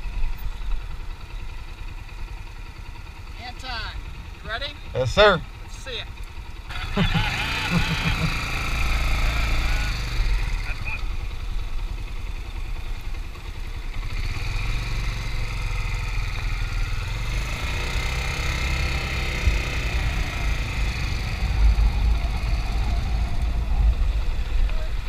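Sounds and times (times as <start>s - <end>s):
motorcycle engine running slowly: 0.0s - 25.0s.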